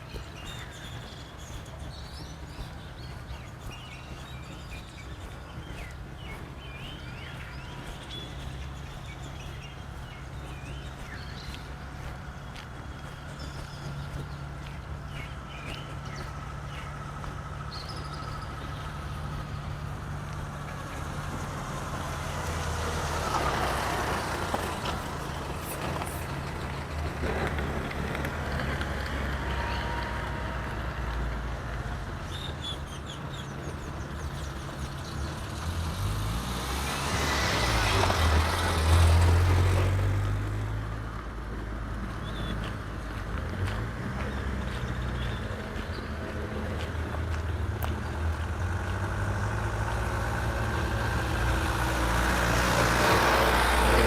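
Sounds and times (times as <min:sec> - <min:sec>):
low engine hum: 0:00.0 - 0:54.0
vehicles passing on street: 0:00.0 - 0:54.0.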